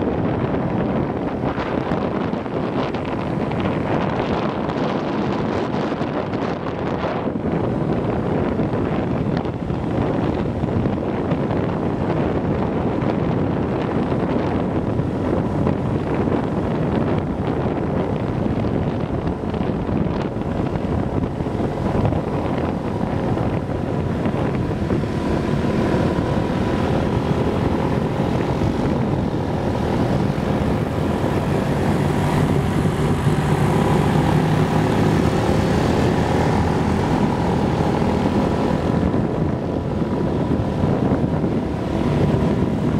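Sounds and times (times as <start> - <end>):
wind and road rush: 0.0 - 42.9.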